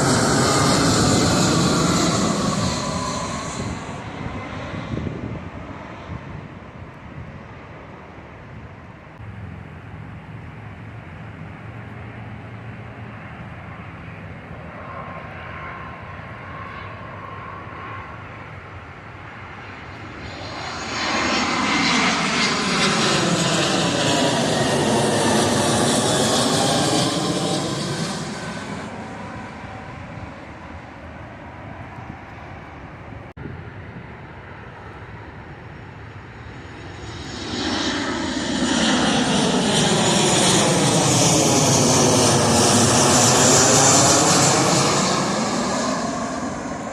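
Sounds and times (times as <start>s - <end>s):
airplane roaring overhead: 0.0s - 46.9s.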